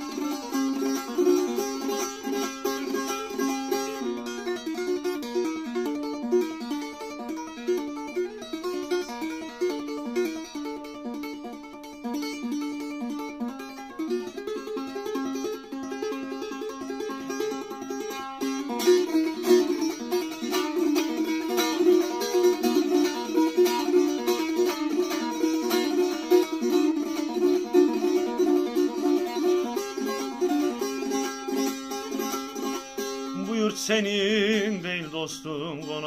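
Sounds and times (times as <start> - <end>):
plucked long-necked lute: 0.0 - 36.0.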